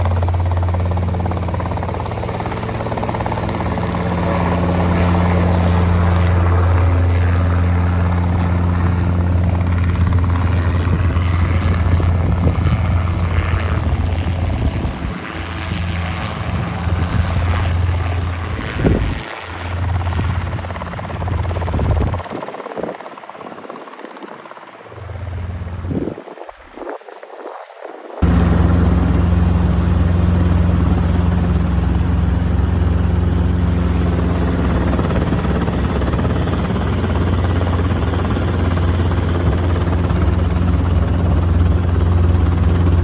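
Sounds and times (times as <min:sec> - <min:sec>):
helicopter rotor and engine: 0:00.0 - 0:26.5, 0:28.2 - 0:43.0.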